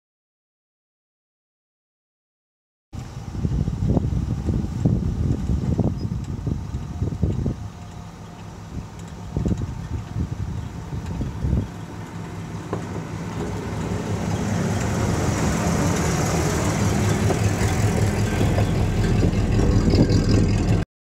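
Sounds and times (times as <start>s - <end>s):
rail car engine rolling on track: 3.0s - 20.8s.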